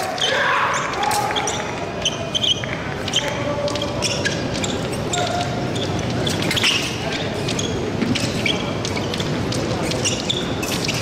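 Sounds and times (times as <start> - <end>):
shoes squeaking and stamping: 0.0 - 11.0.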